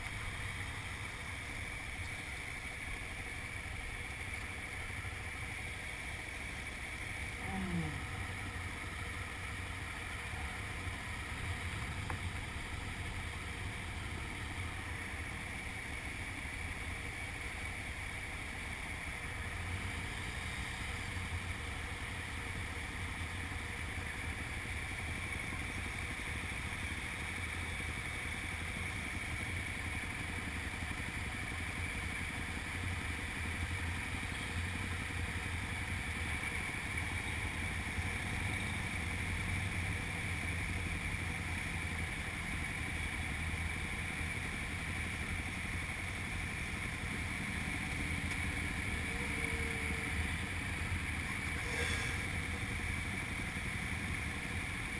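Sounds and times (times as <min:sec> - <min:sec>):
motorcycle engines droning: 0:00.0 - 0:54.9.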